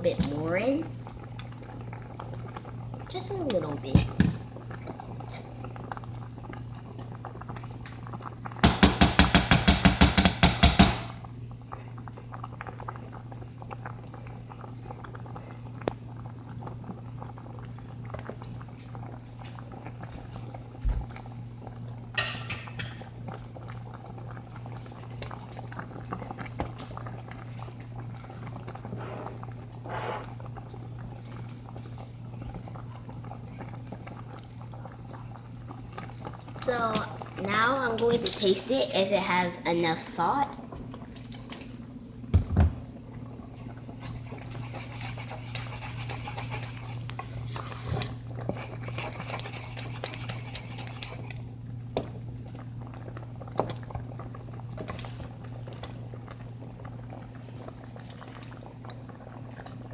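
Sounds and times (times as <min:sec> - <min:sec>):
pot simmering: 0:00.0 - 0:59.9.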